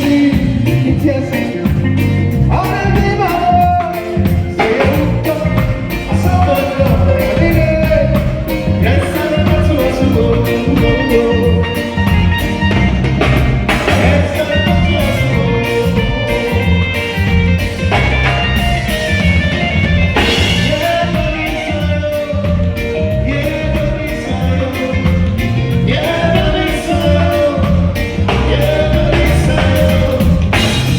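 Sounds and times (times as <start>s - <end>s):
bass line: 0.0s - 30.9s
drum kit beat: 0.0s - 30.9s
person singing sliding notes: 0.0s - 30.9s.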